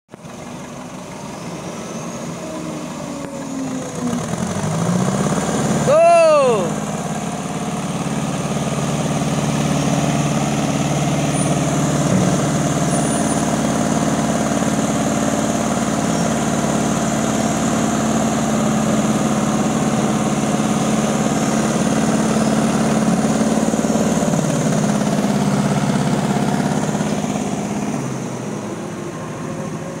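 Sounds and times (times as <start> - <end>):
diesel engines running hard: 0.1 - 30.0.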